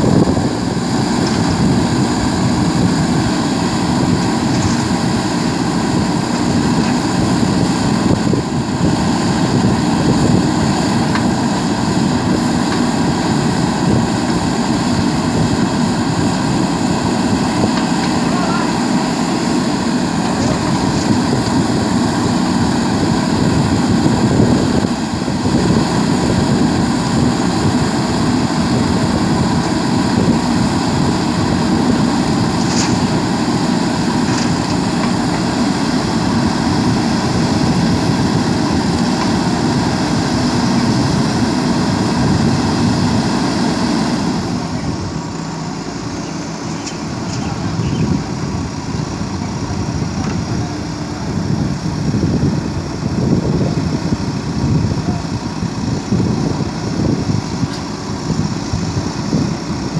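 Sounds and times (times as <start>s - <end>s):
diesel engines under load: 0.0s - 59.9s.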